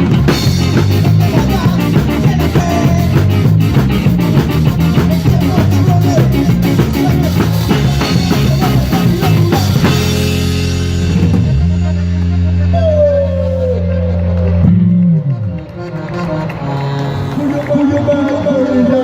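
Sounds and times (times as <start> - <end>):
drum kit: 0.0 - 16.0
live rock band playing: 0.0 - 19.0.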